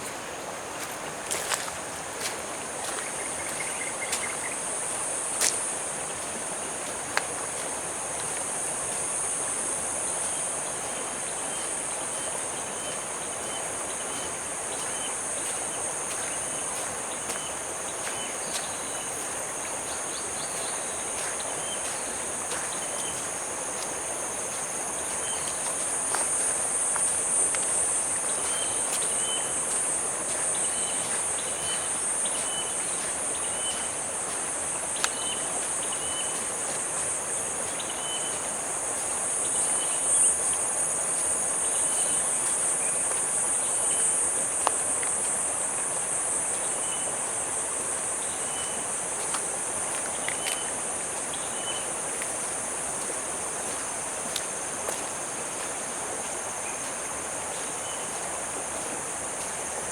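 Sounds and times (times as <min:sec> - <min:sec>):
background hiss: 0:00.0 - 0:59.9
insects trilling: 0:00.0 - 0:59.9.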